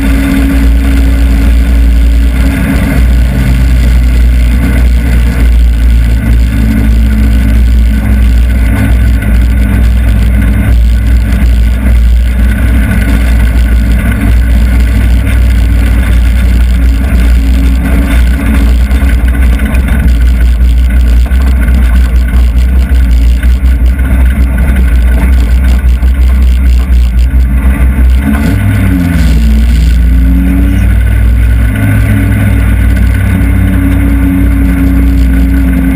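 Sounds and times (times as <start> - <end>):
race car engine revving: 0.0 - 35.9.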